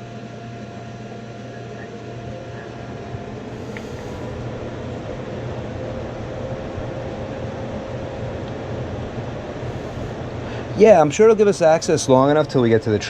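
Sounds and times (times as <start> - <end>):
low mechanical hum: 0.0 - 13.0
blower air rush: 1.8 - 13.0.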